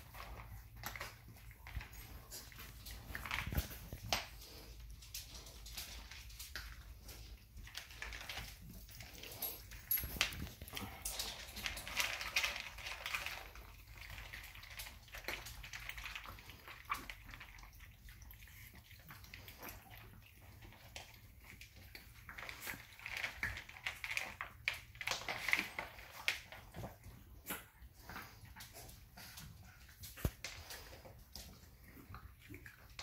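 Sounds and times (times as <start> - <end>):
puppies crunching kibble: 0.0 - 33.0.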